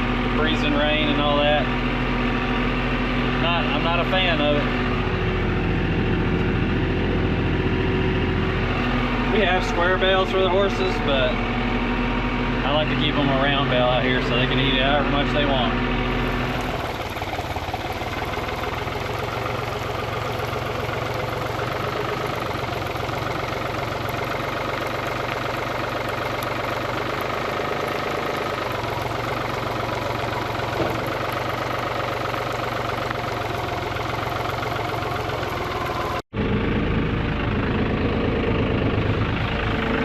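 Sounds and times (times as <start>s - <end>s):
engine humming: 0.0s - 40.0s
tractor engine running: 0.0s - 40.0s.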